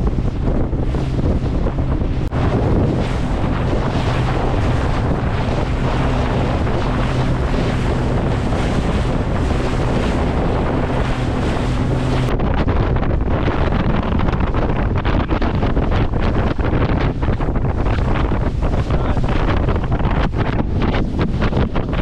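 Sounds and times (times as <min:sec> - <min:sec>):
boat engine drone: 0:00.0 - 0:22.0
water noise: 0:00.0 - 0:22.0
wind buffeting microphone: 0:00.0 - 0:22.0.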